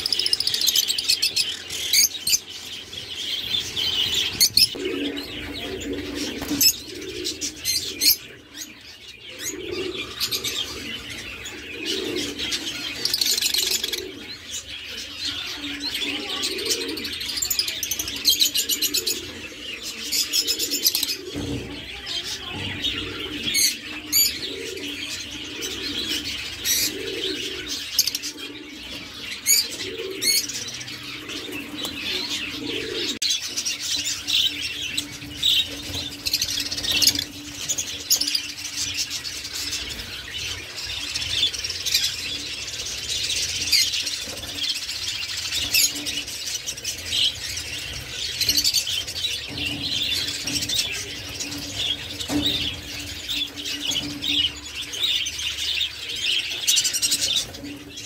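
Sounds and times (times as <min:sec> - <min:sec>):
lovebirds chattering and chirping: 0:00.0 - 0:58.0.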